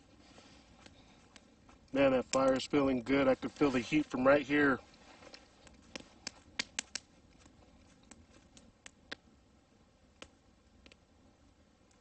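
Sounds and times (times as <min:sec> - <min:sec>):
campfire crackling and popping: 0:00.0 - 0:12.0
low hiss: 0:00.0 - 0:12.0.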